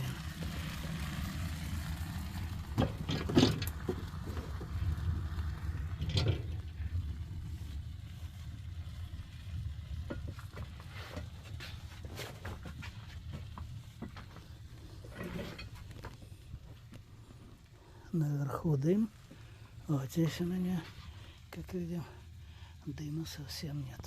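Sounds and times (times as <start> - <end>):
low rumble of fire: 0.0 - 24.0.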